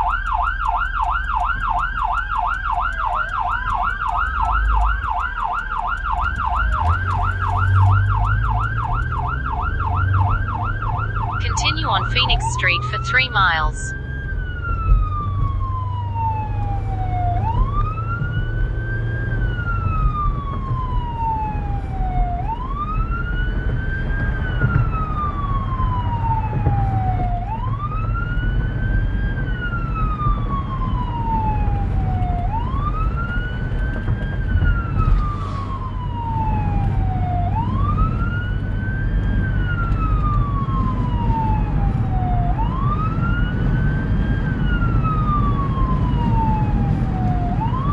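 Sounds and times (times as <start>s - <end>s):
engine and road rumble: 0.0s - 47.9s.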